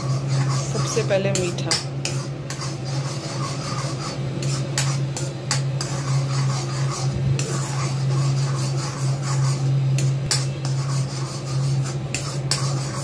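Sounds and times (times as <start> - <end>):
spoon scraping semolina in metal pan: 0.0 - 13.0
steady low hum: 0.0 - 13.0.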